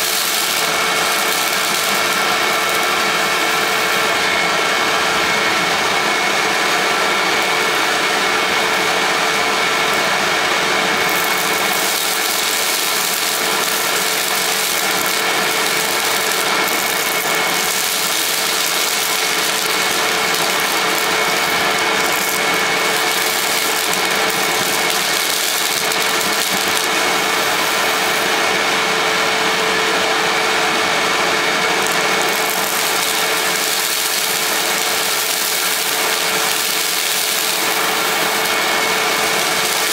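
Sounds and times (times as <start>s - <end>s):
vacuum cleaner whining: 0.0s - 39.9s
vacuum tool sucking debris: 0.0s - 39.9s.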